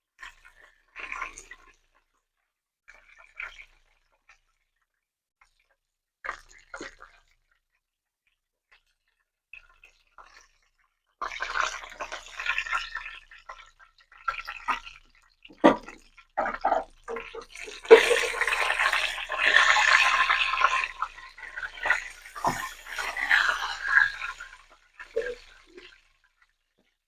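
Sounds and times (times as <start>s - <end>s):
sizzling and dripping oil: 2.9s - 27.0s.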